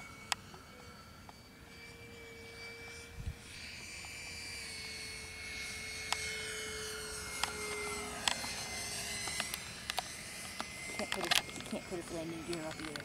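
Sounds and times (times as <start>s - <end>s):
model jet whine flying past: 0.0s - 13.0s.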